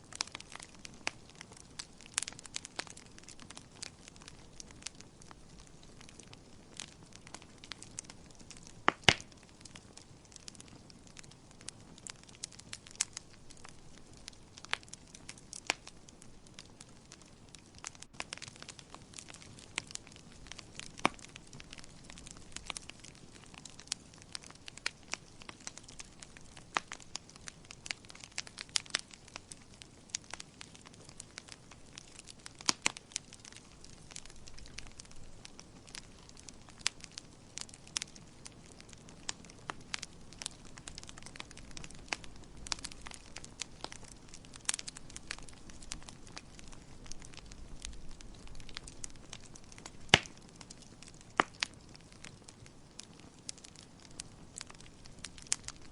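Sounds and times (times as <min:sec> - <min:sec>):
low hiss of burning: 0:00.0 - 0:55.9
wood fire crackling and popping: 0:00.0 - 0:55.9.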